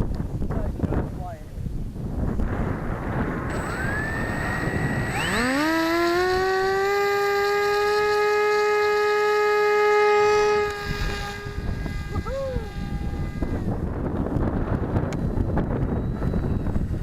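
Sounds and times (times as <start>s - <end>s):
wind buffeting microphone: 0.0s - 7.1s, 10.4s - 17.0s
electric motor and propeller whine: 2.4s - 17.0s.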